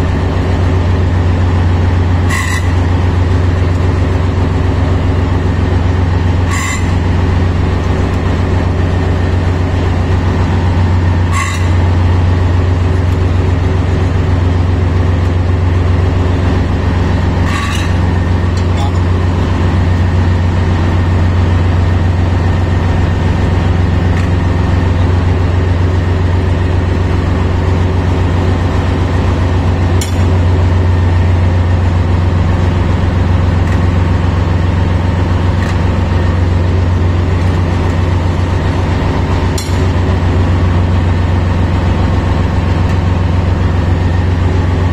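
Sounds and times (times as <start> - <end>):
heavy machinery drone: 0.0 - 44.9.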